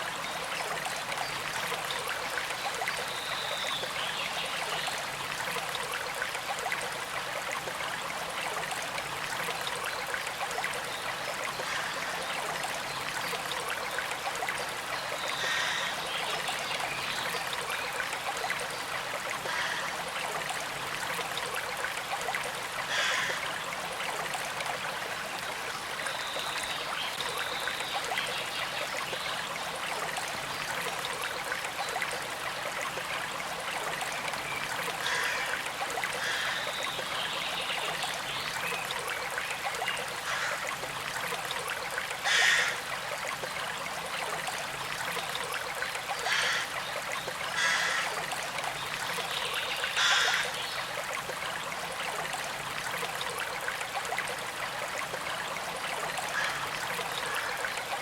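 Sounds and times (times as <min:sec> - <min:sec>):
creek trickling over stones: 0:00.0 - 0:58.0
water gurgles: 0:00.0 - 0:58.0.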